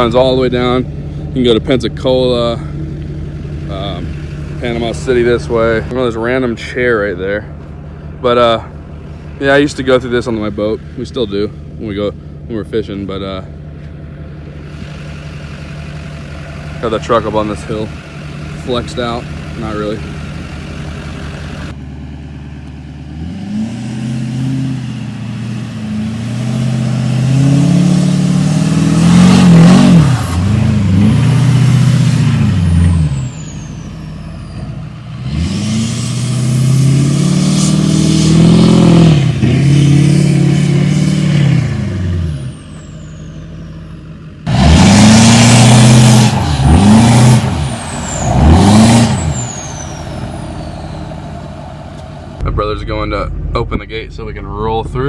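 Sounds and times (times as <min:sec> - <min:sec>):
pickup truck engine revving: 0:00.0 - 0:52.4.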